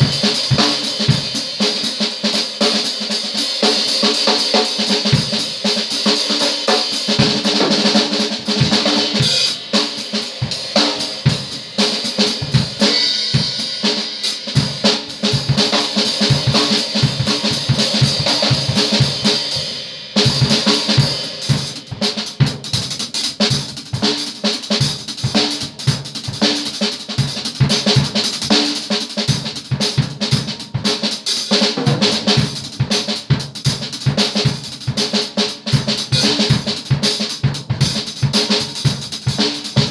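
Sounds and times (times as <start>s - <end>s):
drums played fast: 0.0s - 39.9s.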